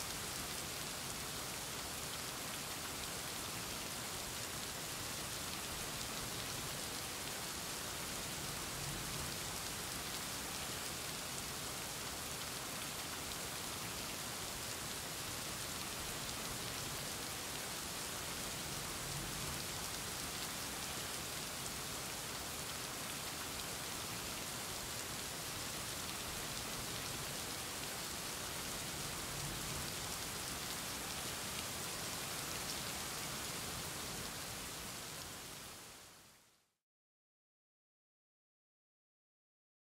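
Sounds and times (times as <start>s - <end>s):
steady rain: 0.0s - 36.8s.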